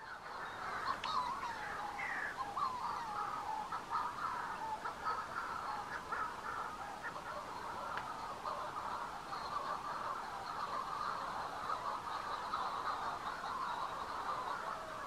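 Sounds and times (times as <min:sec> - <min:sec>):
seabirds calling in chorus: 0:00.0 - 0:15.0.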